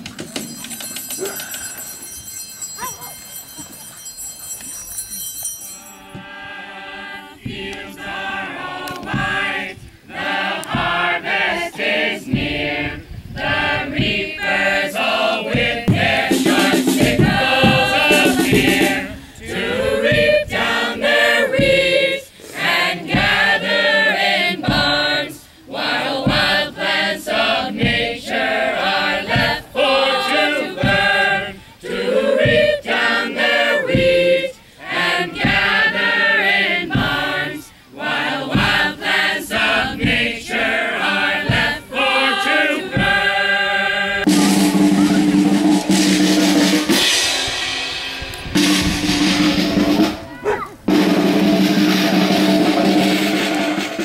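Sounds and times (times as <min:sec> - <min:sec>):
chorus of voices singing: 0:05.9 - 0:50.2, 0:50.9 - 0:54.0.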